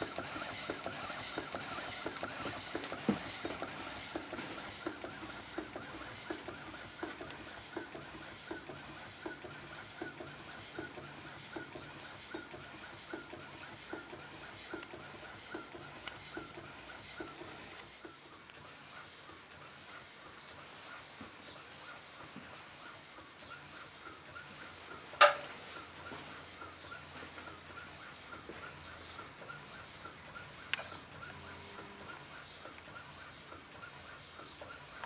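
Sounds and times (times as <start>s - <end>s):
steam engine exhaust puffs and knocks: 0.0s - 35.0s.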